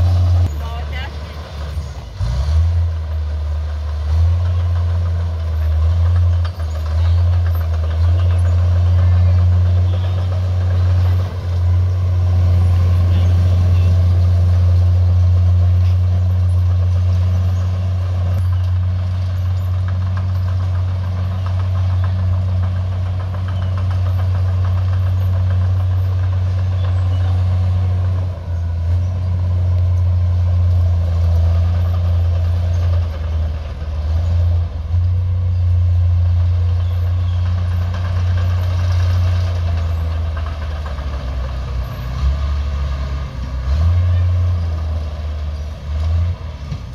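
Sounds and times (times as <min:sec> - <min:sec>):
heavy diesel engine humming: 0:00.0 - 0:46.9.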